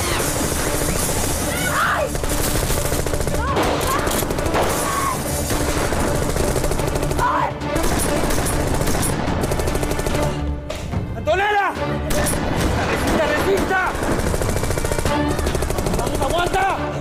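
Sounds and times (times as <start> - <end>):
heavy gunfire: 0.0 - 10.5, 12.1 - 16.8
dramatic background music: 0.0 - 17.0.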